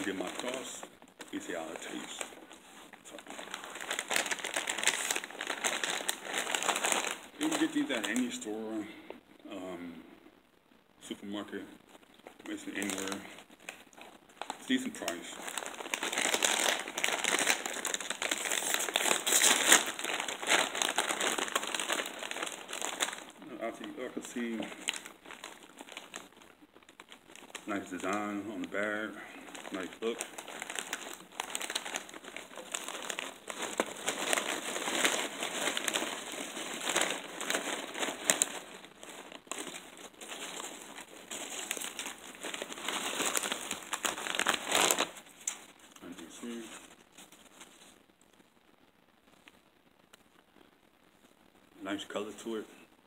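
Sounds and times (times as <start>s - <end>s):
chip bag crinkling: 0.0s - 8.4s, 12.2s - 48.0s.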